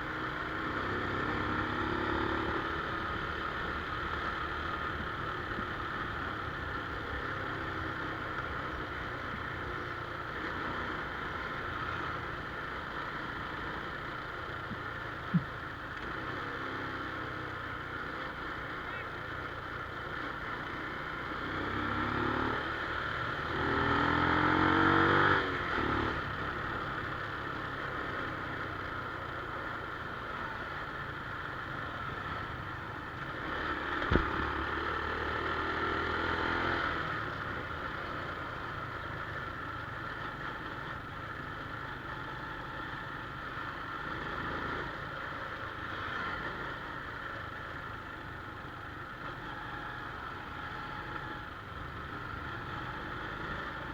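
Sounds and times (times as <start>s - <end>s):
motorcycle engine revving: 0.0s - 12.3s, 20.6s - 28.6s, 30.3s - 47.1s, 47.8s - 53.9s.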